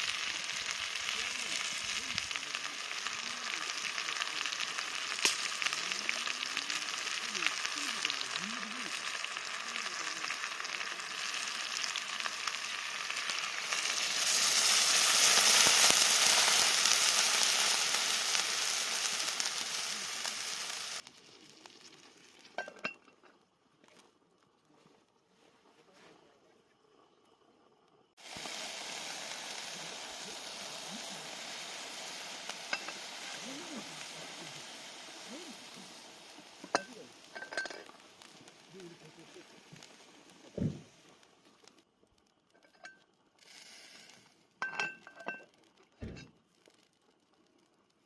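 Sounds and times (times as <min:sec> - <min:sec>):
food sizzling in a pan: 0:00.0 - 0:24.1, 0:27.6 - 0:48.0.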